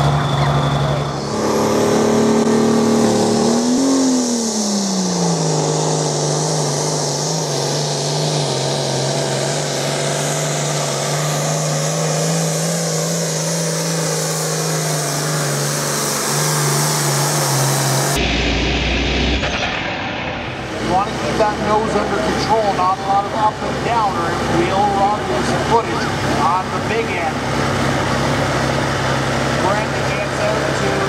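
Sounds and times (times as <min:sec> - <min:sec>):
diesel tractor engine under load: 0:00.0 - 0:31.0.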